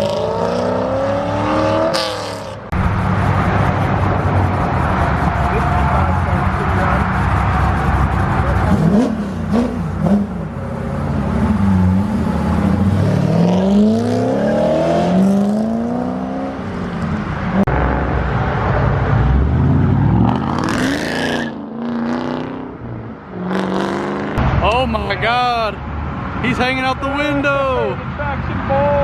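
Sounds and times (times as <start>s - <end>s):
car engines revving and accelerating: 0.0s - 29.0s.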